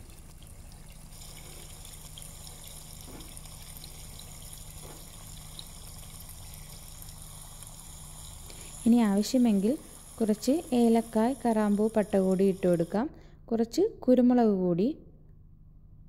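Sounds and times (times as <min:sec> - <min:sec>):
chicken sizzling in oil: 0:00.0 - 0:12.9.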